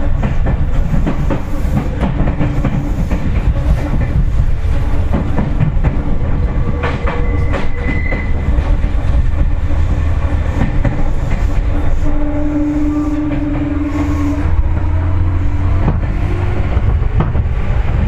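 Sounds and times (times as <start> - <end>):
train running low rumble: 0.0 - 18.0
wheels clacking over rail joints: 0.0 - 18.0.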